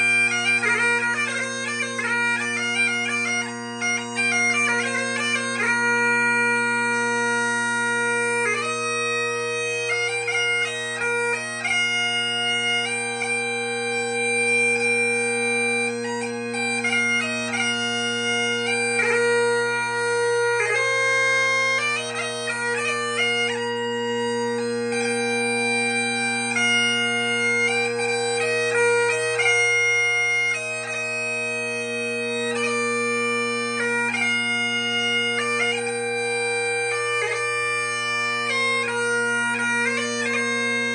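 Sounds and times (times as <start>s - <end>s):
bagpipes playing a tune: 0.0s - 40.9s.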